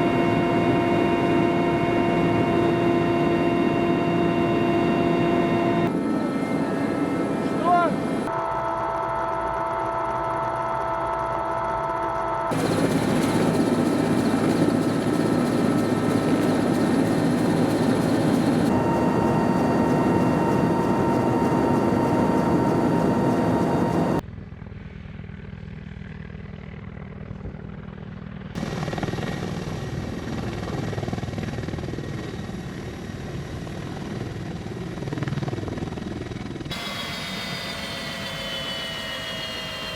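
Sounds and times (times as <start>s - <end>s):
helicopter turbines and rotors: 0.0s - 39.9s.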